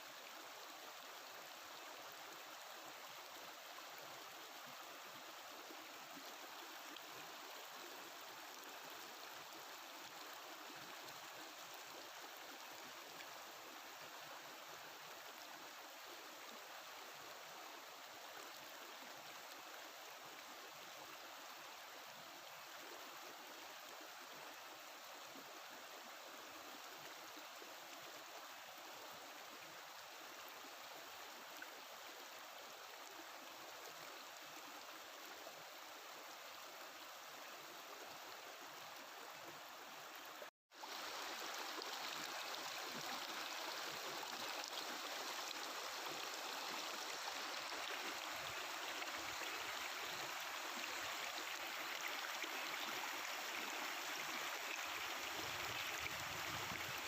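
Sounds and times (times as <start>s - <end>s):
river water babbling: 0.0s - 57.0s.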